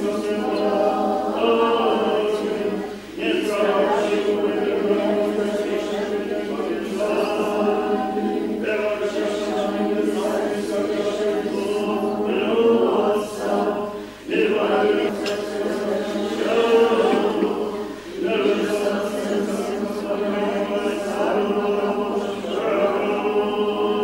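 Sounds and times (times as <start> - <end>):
voices chanting together: 0.0 - 24.0.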